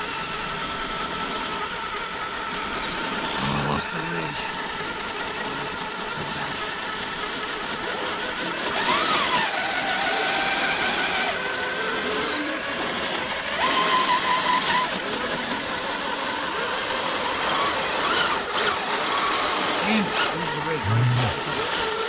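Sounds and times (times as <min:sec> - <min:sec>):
electric motors and gears whining: 0:00.0 - 0:22.0.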